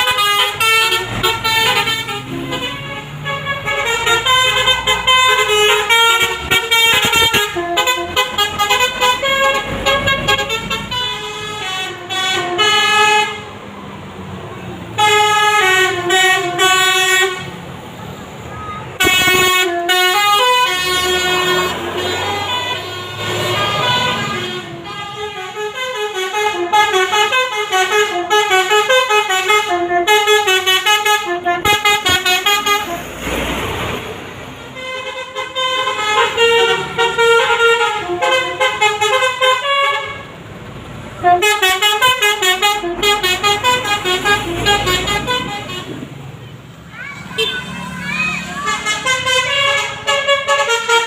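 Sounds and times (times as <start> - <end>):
multi-tone horn melody: 0.0 - 13.5, 15.0 - 17.6, 18.6 - 33.2, 34.6 - 40.3, 41.2 - 46.1, 48.5 - 51.0.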